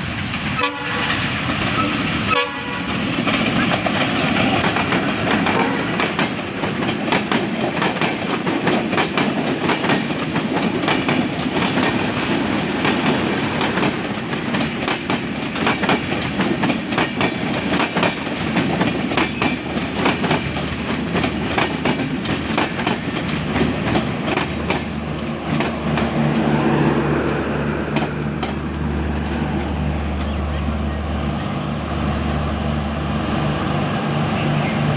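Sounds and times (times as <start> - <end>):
train wheels clattering: 0.2 - 30.4.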